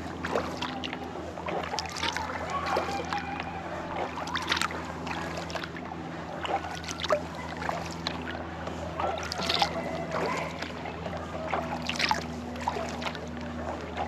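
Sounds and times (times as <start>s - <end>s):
paddle splashing in water: 0.0s - 14.0s
steady low hum: 0.0s - 14.0s.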